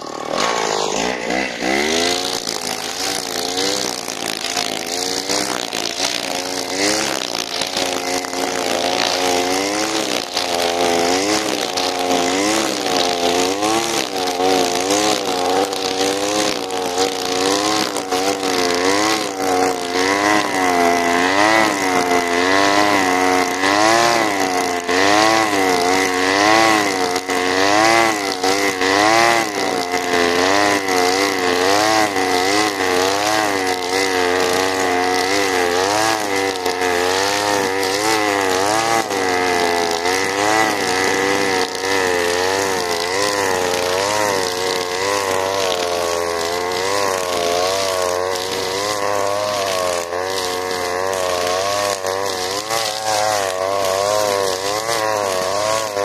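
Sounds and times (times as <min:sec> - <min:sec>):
grass trimmer engine cutting grass: 0:00.0 - 0:56.0.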